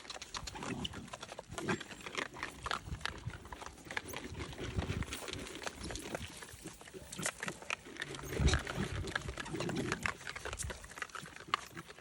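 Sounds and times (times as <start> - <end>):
animal grunts and snuffles: 0.0 - 12.0.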